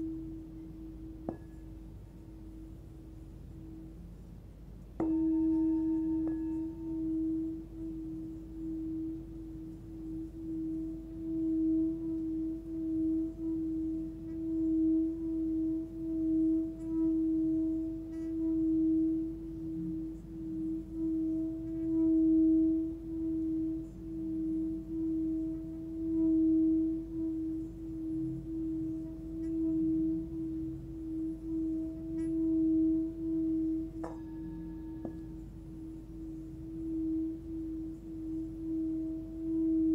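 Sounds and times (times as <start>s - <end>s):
singing bowl struck: 0.0s - 1.9s, 5.0s - 39.9s
singing bowl rim tone: 0.0s - 39.9s.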